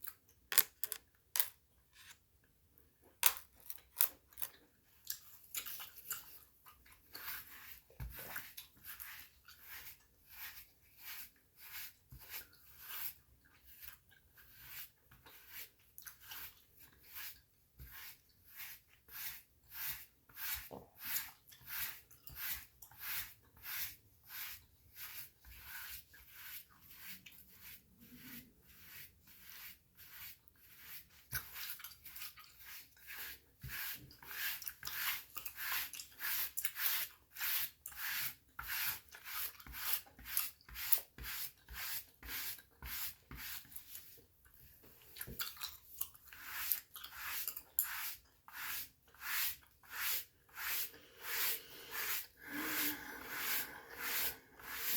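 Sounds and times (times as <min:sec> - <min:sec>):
brush bristles scratching skin: 0:05.6 - 0:44.2, 0:46.2 - 0:54.9.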